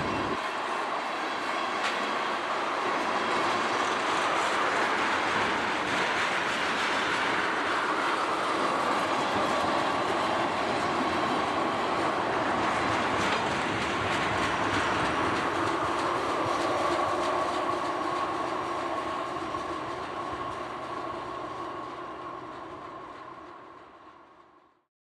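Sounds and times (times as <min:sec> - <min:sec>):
train wheels clicking over rails: 0:00.0 - 0:24.3.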